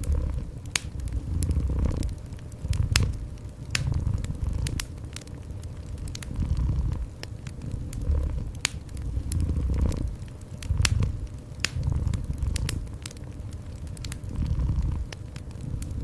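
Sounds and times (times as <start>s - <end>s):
cat purring: 0.0s - 16.0s
wood fire crackling and popping: 0.0s - 16.0s.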